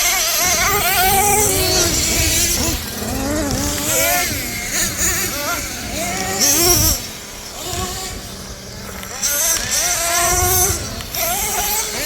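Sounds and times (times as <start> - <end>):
small nitro engines revving: 0.0 - 12.0.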